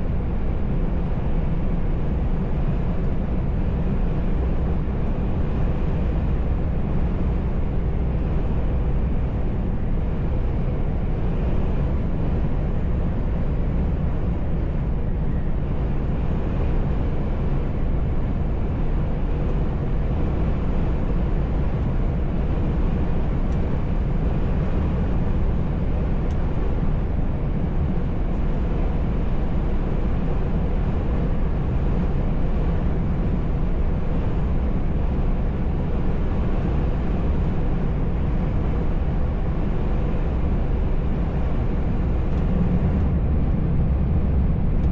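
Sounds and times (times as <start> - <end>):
road noise: 0.0 - 44.9
truck engine drone: 0.1 - 44.9.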